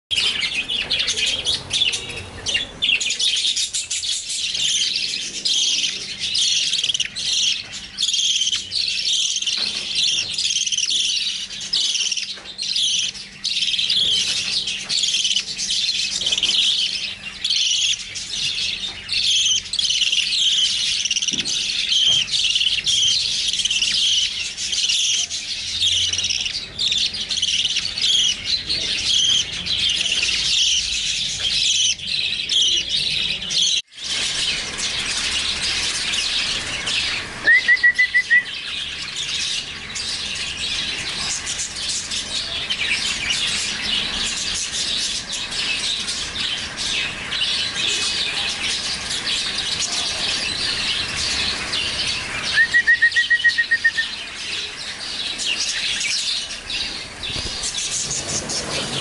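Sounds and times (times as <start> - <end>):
baby birds chirping: 0.1 - 59.0.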